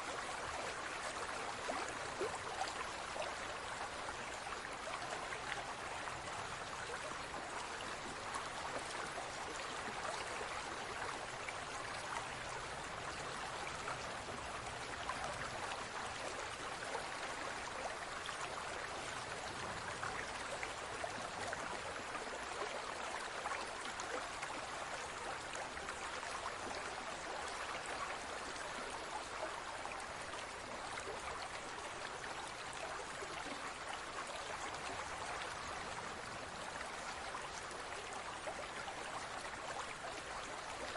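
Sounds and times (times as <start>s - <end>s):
aquarium water trickling and bubbling: 0.0s - 40.9s.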